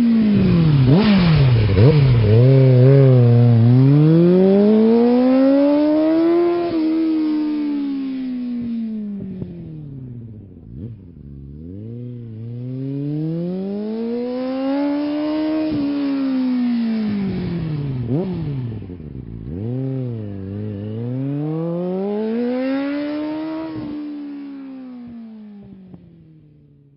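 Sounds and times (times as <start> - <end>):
engine revving: 0.0 - 8.3, 9.1 - 24.8.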